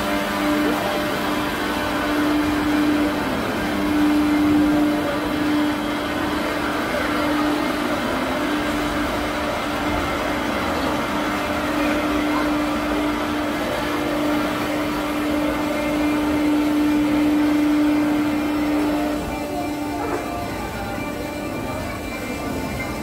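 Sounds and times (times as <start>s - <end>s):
mechanical noise: 0.0s - 23.0s
ride machinery humming: 0.0s - 23.0s.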